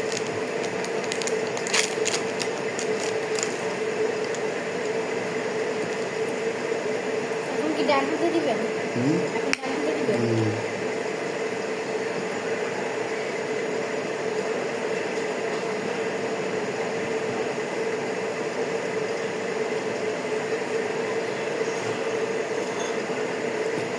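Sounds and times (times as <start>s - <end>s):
steady mechanical hum: 0.0s - 23.9s.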